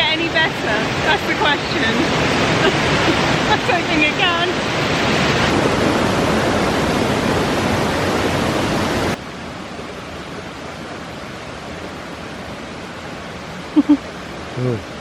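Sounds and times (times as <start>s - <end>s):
quiet steady rushing noise: 0.0s - 15.0s
waterfall rushing: 0.0s - 15.0s.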